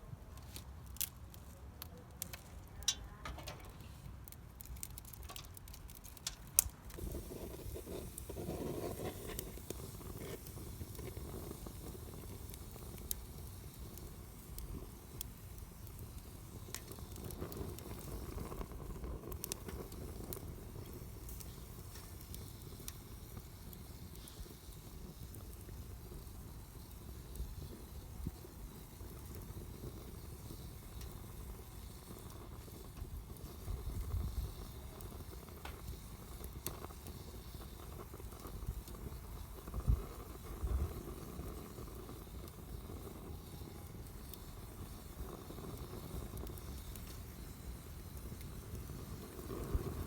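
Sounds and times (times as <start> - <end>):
campfire crackling and popping: 0.0 - 50.0
fire low rumble: 0.0 - 50.0.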